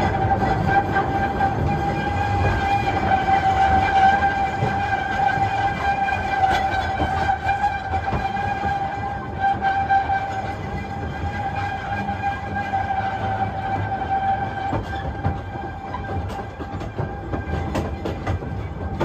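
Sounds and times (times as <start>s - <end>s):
carriages rumbling and clicking: 0.0s - 19.0s
steam train running slowly: 0.0s - 19.0s.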